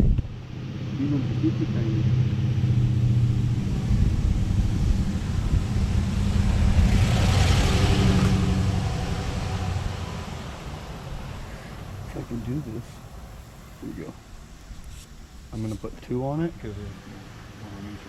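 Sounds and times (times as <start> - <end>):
vehicle engine rumbling past: 0.0 - 14.6.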